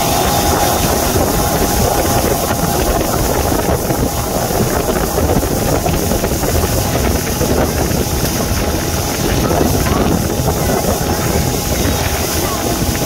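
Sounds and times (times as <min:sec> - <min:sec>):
motorboat engine running: 0:00.0 - 0:13.0
rush of boat wake: 0:00.0 - 0:13.0
wind buffeting microphone: 0:00.0 - 0:13.0.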